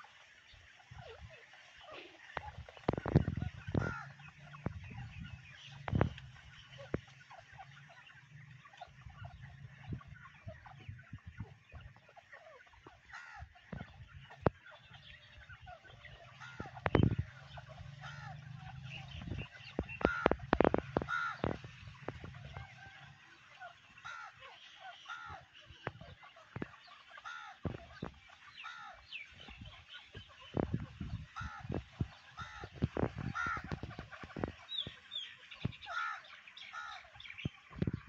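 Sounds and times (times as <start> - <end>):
young birds chirping softly: 0.0 - 38.0.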